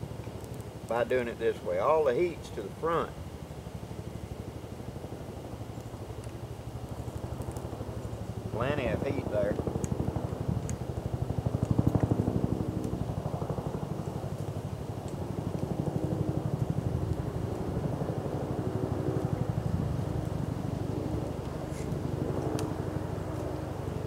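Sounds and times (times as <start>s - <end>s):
low pulsing engine-like drone: 0.0s - 24.0s
twig fire crackling: 0.1s - 24.0s.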